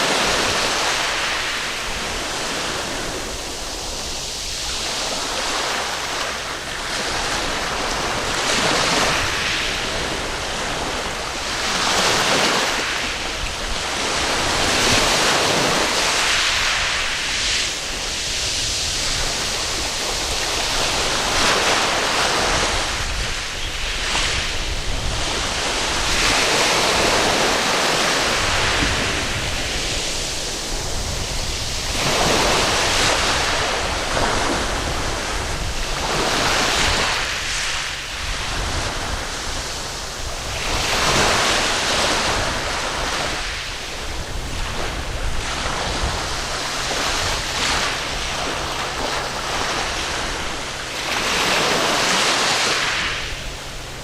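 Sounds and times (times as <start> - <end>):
waves washing onto beach: 0.0 - 54.0.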